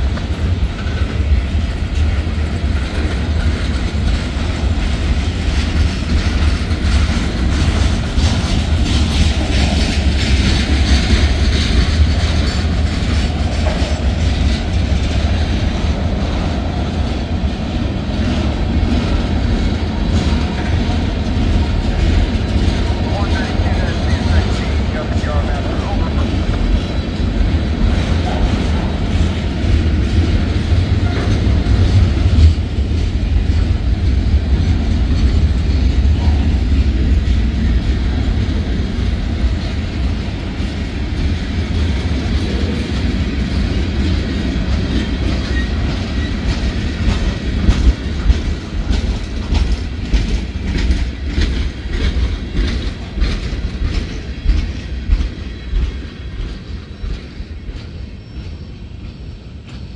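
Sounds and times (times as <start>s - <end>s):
freight train rumbling: 0.0s - 59.9s
train wheels clacking on rail joints: 0.0s - 59.9s.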